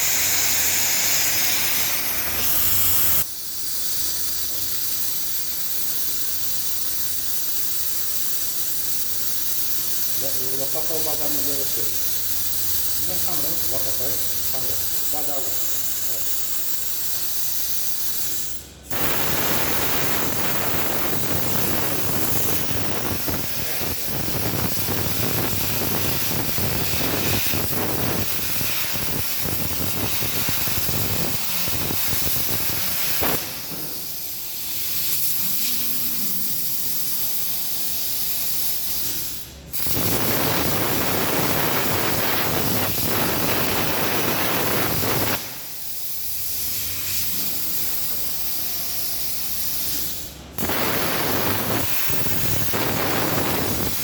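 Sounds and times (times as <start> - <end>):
plasma cutter hissing: 0.0 - 54.0.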